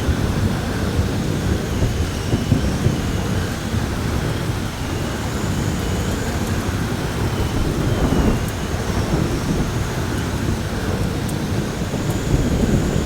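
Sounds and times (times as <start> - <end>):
faint wind whistle: 0.0 - 13.0
heavy rain downpour: 0.0 - 13.0
low rumble of thunder: 0.0 - 13.0.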